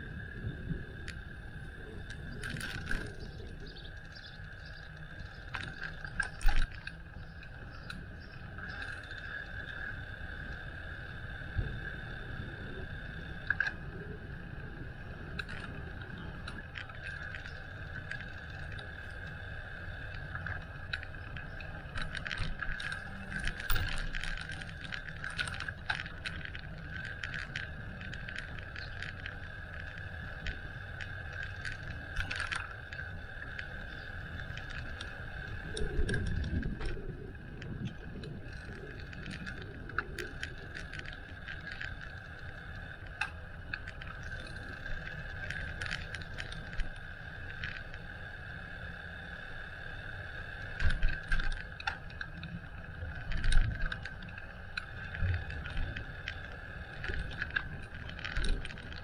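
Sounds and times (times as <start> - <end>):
bicycle riding rumble and hum: 0.0 - 59.0
bike rattling and clicking: 0.0 - 59.0.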